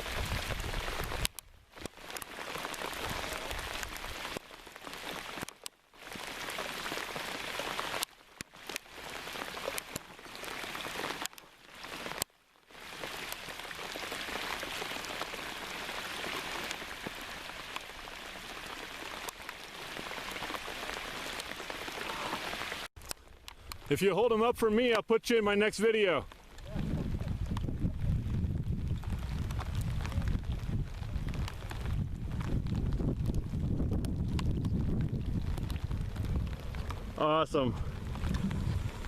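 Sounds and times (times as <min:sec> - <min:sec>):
heavy rain falling: 0:00.0 - 0:24.1, 0:24.8 - 0:39.0.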